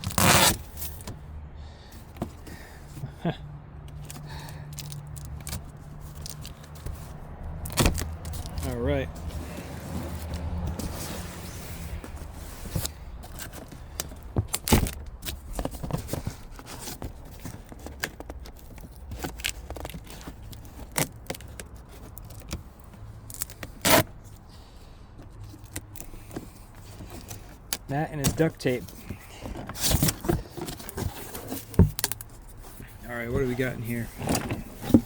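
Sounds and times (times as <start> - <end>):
parts and packaging being handled: 0.0 - 1.3, 1.9 - 35.0.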